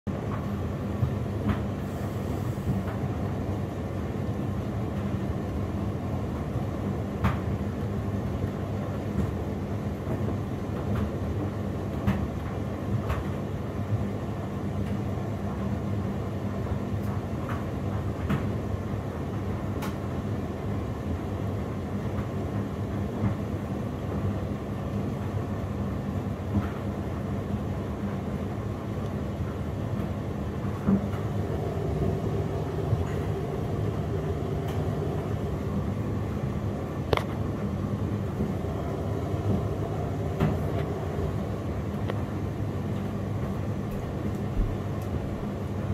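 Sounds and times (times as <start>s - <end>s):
washing machine drum humming: 0.1s - 45.9s.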